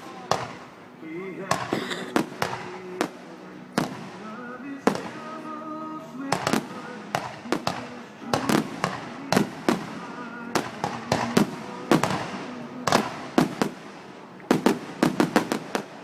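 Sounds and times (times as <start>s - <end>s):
fireworks bangs: 0.0s - 0.8s, 1.4s - 5.6s, 6.2s - 16.0s.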